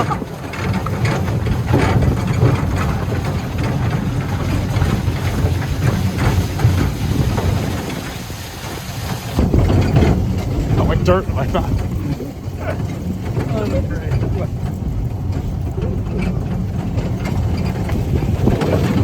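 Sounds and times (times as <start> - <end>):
ride rattling: 0.0 - 19.0
wind buffeting microphone: 0.0 - 19.0.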